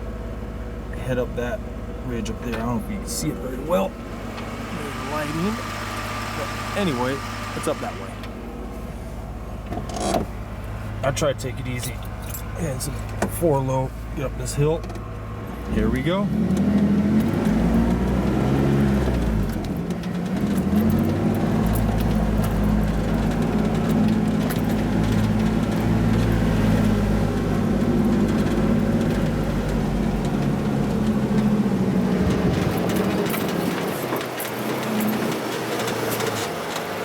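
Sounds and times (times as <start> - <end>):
engine pulling uphill: 0.0 - 37.0.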